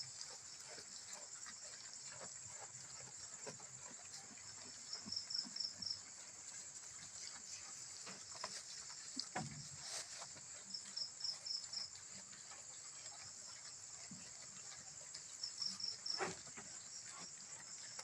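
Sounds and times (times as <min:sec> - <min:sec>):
animals feeding clicks and rustles: 0:00.0 - 0:18.0
insects trilling: 0:00.0 - 0:18.0.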